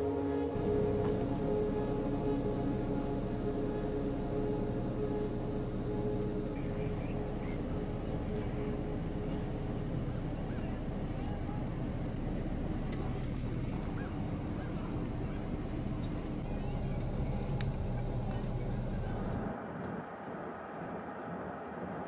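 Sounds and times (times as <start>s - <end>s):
vehicle road and engine rumble: 0.0s - 20.8s.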